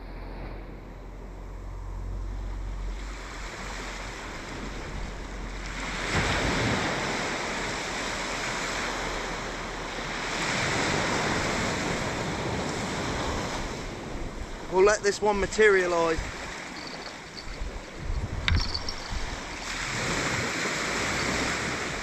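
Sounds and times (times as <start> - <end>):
wind rumbling on microphone: 0.0 - 22.0
sea surf washing onto beach: 2.6 - 22.0.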